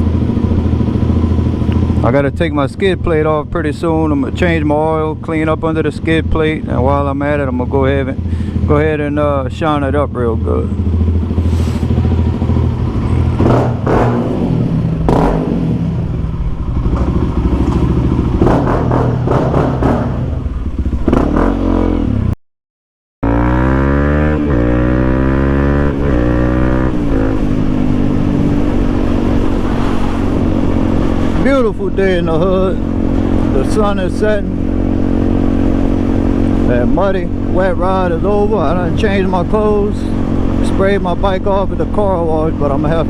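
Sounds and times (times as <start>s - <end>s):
motorcycle engine accelerating: 0.0s - 22.4s, 23.2s - 43.0s.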